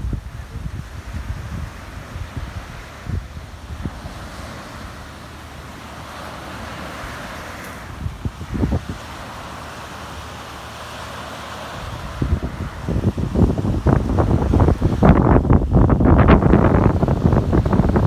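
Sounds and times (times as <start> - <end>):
small waves breaking on beach: 0.0 - 18.0
wind buffeting microphone: 0.0 - 18.0.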